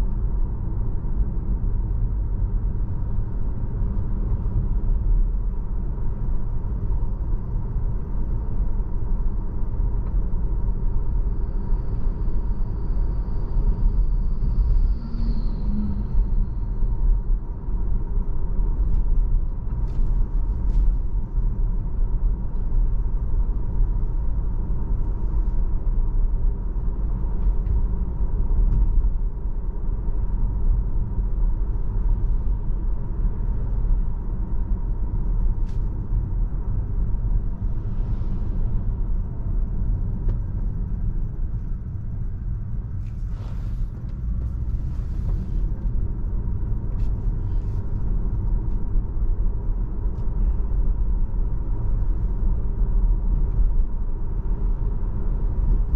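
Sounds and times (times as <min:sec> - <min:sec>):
car road and tyre rumble: 0:00.0 - 0:55.9.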